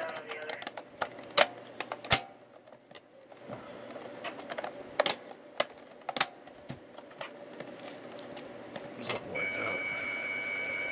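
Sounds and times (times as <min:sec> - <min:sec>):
faint steady hum: 0:00.0 - 0:10.9.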